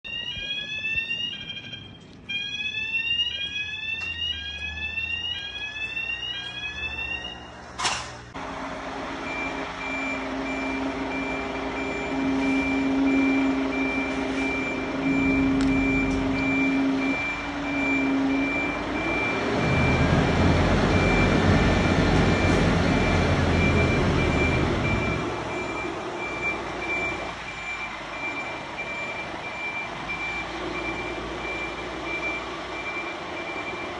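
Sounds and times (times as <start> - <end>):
reversing alarm beeping: 0.0 - 7.8, 9.2 - 33.9
rising warning beeps: 0.0 - 7.8, 9.2 - 33.9
diesel engine running: 3.2 - 33.9.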